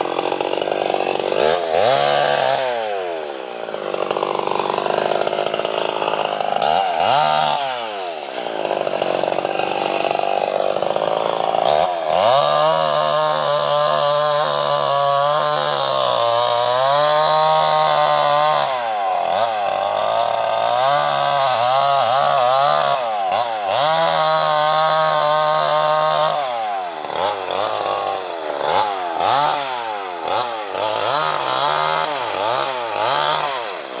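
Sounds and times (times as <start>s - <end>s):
chainsaw revving: 0.0s - 34.0s.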